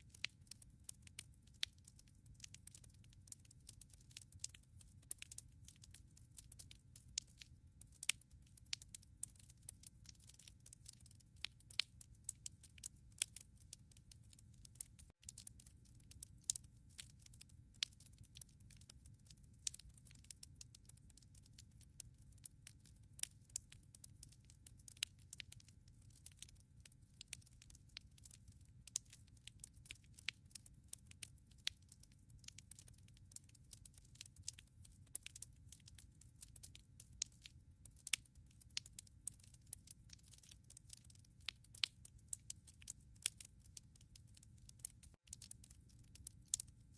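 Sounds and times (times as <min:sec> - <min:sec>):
wood fire crackling: 0:00.0 - 0:46.8.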